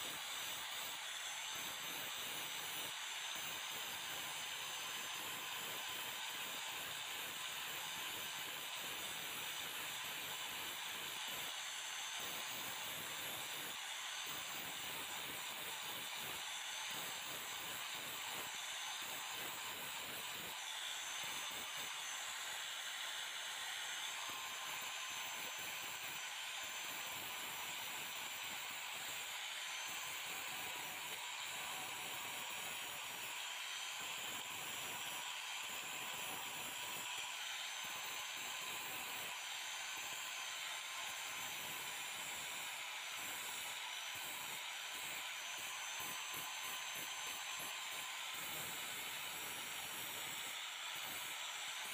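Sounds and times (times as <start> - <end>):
angle grinder whining: 0.0 - 51.9
grinding disc hissing on steel: 0.0 - 51.9.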